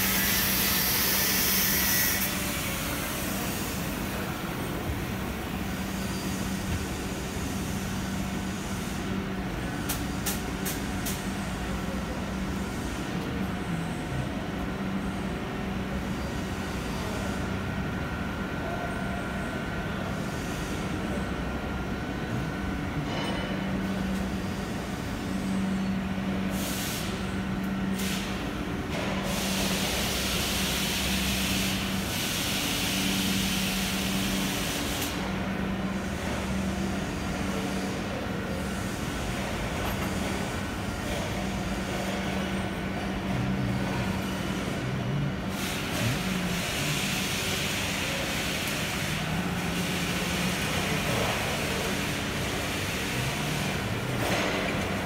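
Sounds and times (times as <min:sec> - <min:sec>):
machinery low hum: 0:00.0 - 0:55.0.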